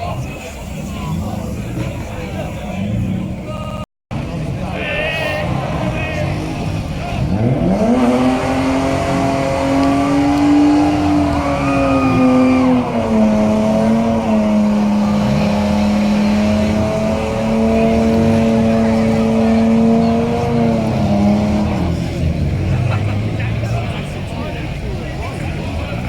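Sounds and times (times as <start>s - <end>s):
car engine revving hard: 5.0s - 26.0s.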